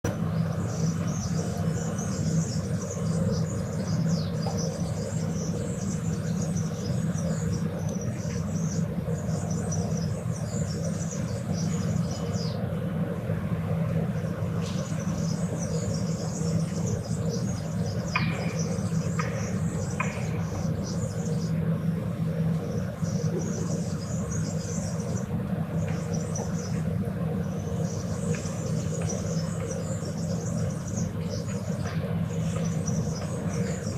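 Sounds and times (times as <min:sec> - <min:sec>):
distant traffic rumble: 0:00.0 - 0:33.9
birds chirping: 0:00.1 - 0:33.9.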